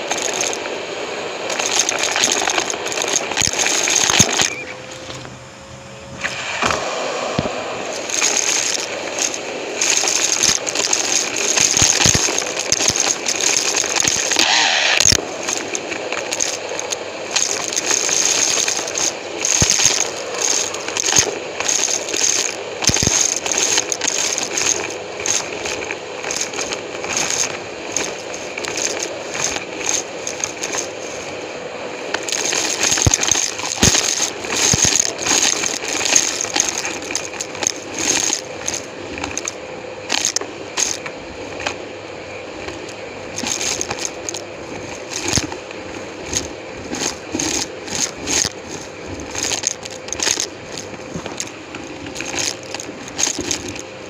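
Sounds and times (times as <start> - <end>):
debris rattling through vacuum: 0.0 - 54.0
vacuum cleaner whine: 0.0 - 54.0.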